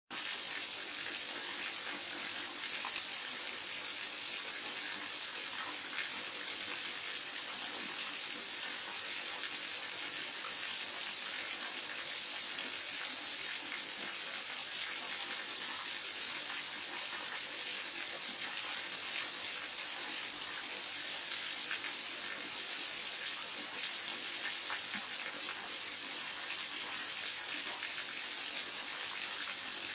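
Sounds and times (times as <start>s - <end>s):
cascading water rushing: 1.2s - 29.9s.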